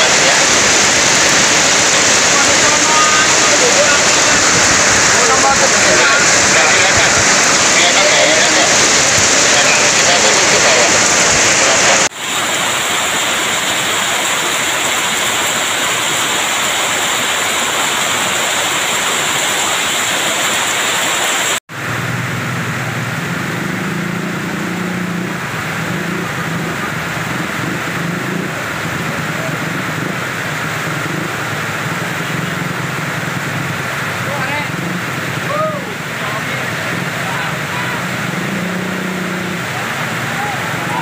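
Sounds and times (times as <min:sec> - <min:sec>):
heavy rain pouring: 0:00.0 - 0:41.0
muddy flood water rushing: 0:00.0 - 0:41.0.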